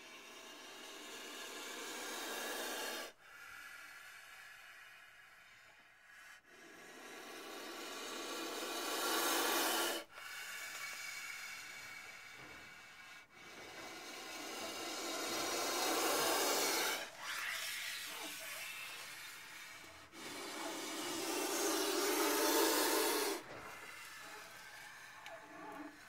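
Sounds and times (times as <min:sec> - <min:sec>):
snake hissing: 0:00.0 - 0:26.0.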